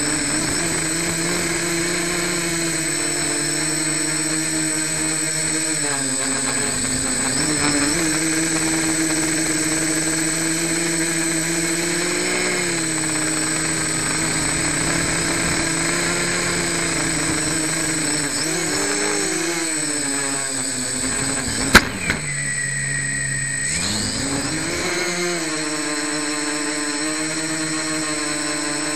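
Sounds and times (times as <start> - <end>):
quadcopter motors and propellers humming: 0.0 - 28.9
steady high whine: 0.0 - 28.9.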